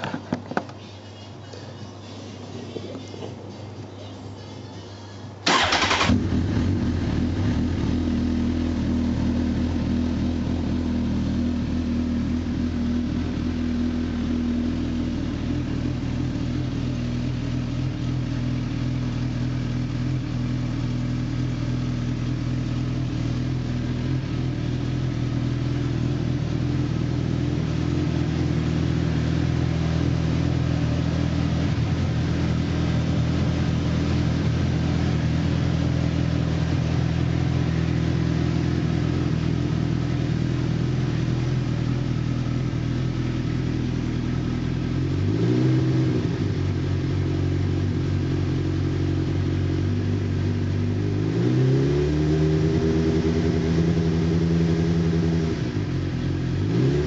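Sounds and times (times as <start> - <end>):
motorcycle engine starting and idling: 5.4 - 57.0.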